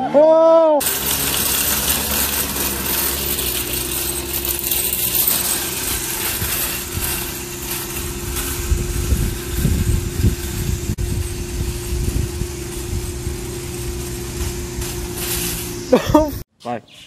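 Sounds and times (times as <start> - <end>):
low hum: 0.8 - 16.4
shopping cart rattling over asphalt: 0.8 - 16.4.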